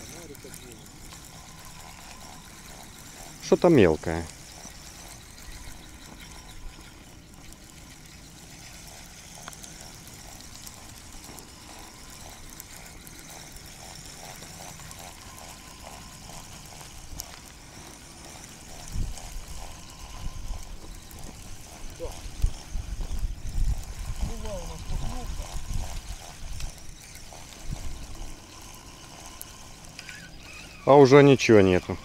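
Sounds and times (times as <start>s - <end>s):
fishing reel whirring: 0.0s - 32.0s.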